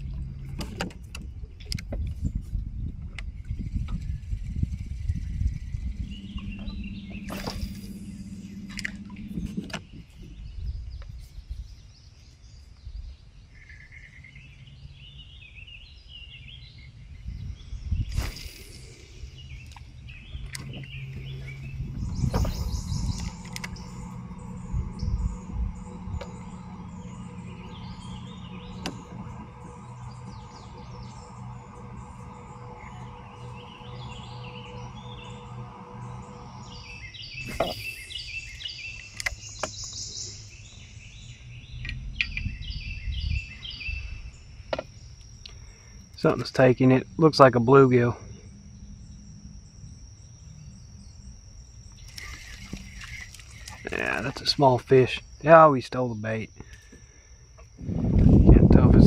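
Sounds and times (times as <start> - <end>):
low background hum: 0.0 - 59.0
songbirds chirping: 0.0 - 59.0.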